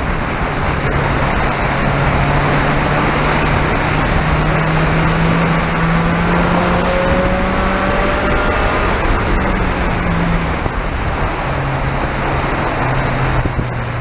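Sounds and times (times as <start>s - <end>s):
race car engine accelerating: 0.0s - 14.0s
wind and road noise: 0.0s - 14.0s.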